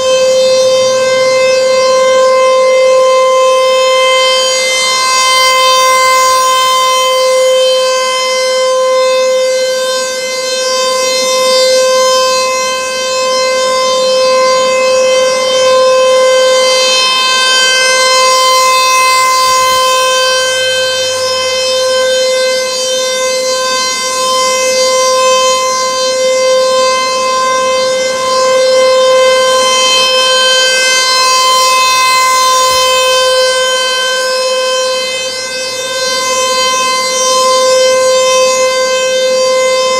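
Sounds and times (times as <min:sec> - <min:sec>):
warning siren steady pitch: 0:00.0 - 0:39.9.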